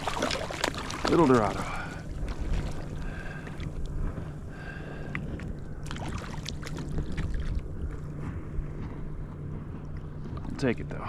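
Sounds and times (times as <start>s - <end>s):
water against kayak hull: 0.0s - 11.0s
wind on microphone: 0.0s - 11.0s.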